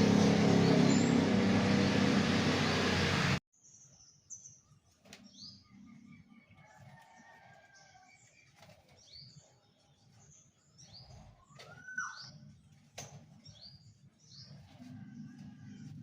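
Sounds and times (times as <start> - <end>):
small birds chirping: 0.0 - 2.0, 3.6 - 16.0.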